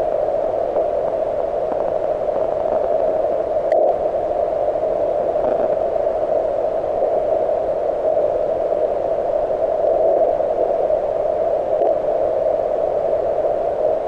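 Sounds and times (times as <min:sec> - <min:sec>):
radio receiver hiss: 0:00.0 - 0:14.0.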